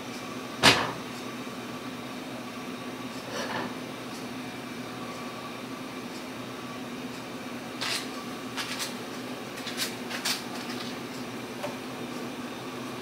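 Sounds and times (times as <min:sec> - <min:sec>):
appliance hum: 0:00.0 - 0:13.0.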